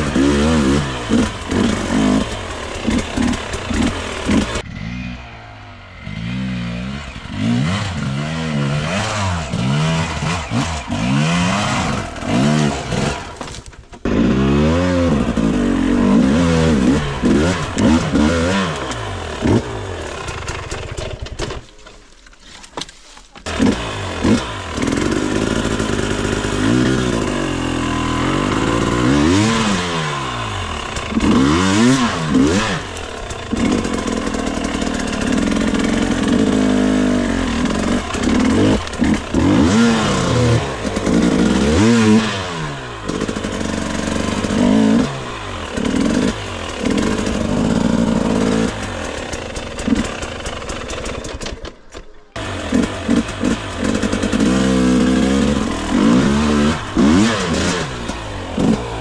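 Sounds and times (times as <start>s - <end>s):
motorcycle engine revving: 0.0s - 21.6s, 23.4s - 59.0s.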